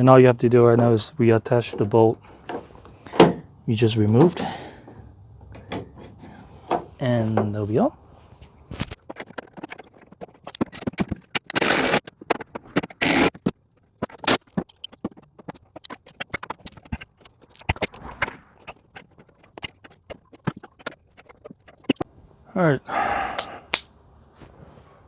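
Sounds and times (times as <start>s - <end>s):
scraping noises: 0.5s - 22.1s.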